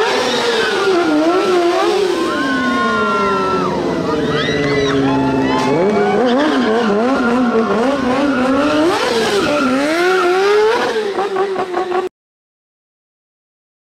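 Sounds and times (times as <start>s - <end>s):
motorcycle engine revving hard: 0.0s - 12.1s.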